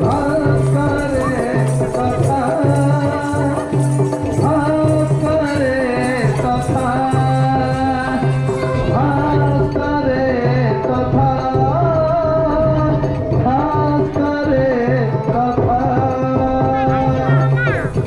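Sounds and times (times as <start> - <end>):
hand drum beats: 0.0 - 18.0
person singing: 0.0 - 18.0.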